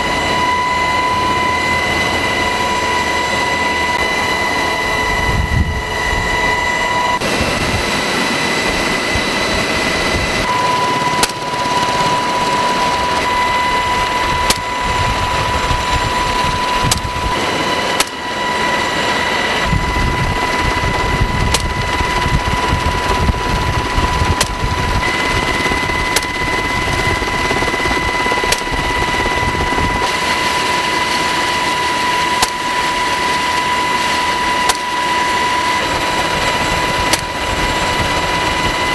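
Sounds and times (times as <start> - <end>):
helicopter in flight: 0.0 - 38.9.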